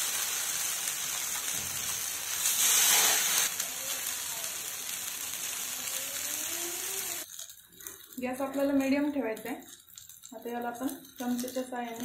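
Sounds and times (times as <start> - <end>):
snacks sizzling in oil: 0.0 - 12.0.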